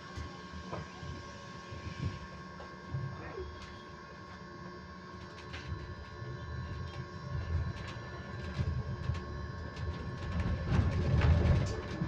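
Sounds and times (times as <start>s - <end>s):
electric bus whine: 0.0s - 12.0s.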